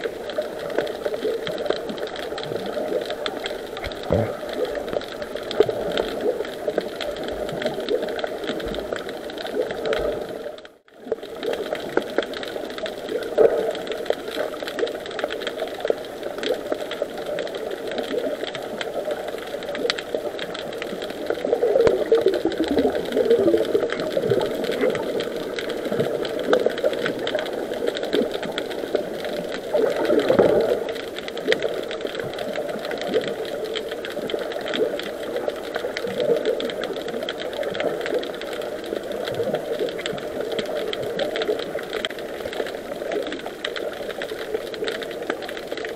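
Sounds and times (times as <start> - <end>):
fine crackling clicks: 0.0 - 45.9.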